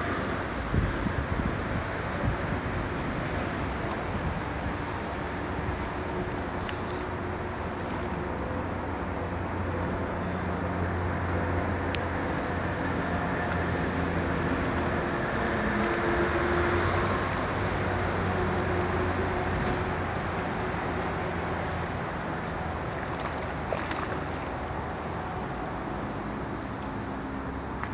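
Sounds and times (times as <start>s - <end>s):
low motor hum: 0.0s - 27.9s
noisy wash: 0.0s - 27.9s.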